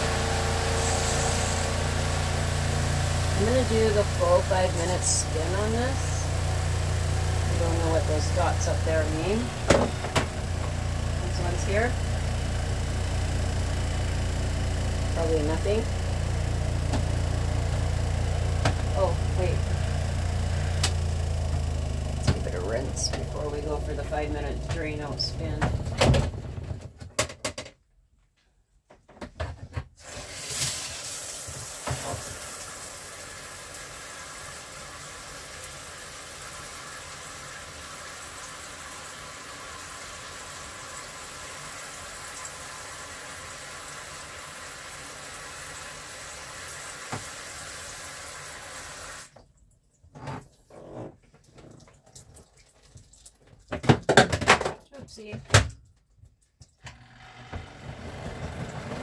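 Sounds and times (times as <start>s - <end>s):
water running into a tub: 0.0s - 25.6s, 30.0s - 49.9s, 51.3s - 55.2s.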